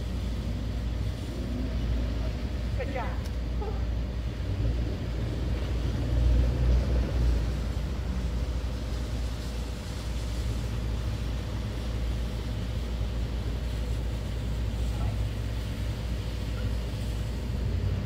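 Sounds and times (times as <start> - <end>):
low traffic rumble: 0.0 - 18.0.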